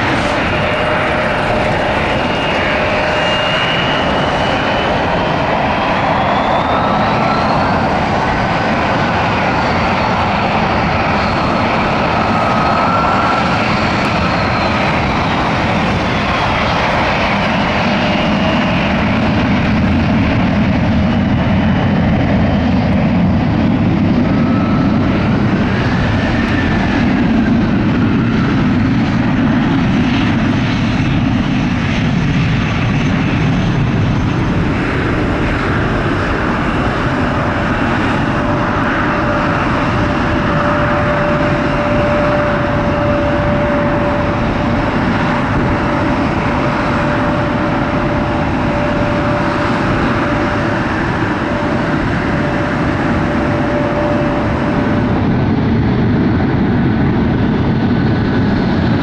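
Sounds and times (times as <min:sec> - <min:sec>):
jet engines at takeoff thrust: 0:00.0 - 0:59.0
taxiing jet engine whine: 0:00.0 - 0:59.0.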